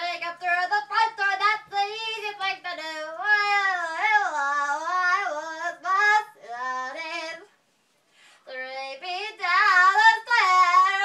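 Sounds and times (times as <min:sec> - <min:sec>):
person singing unaccompanied: 0:00.0 - 0:07.5, 0:08.5 - 0:11.0.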